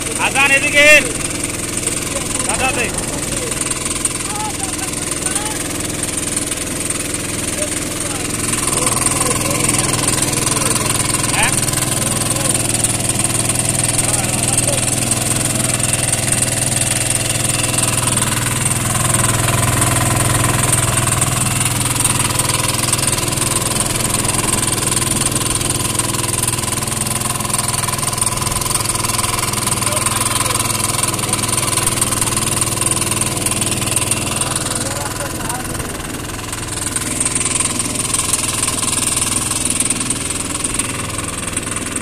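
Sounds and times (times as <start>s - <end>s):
boat engine droning: 0.0s - 42.0s.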